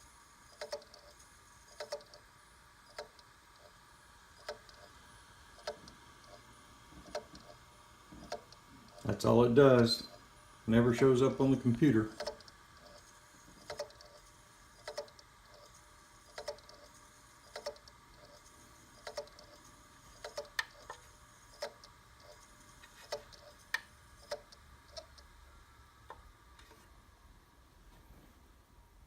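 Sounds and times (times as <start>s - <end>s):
hard drive clicking: 0.5s - 10.3s, 12.0s - 25.4s, 26.0s - 26.8s.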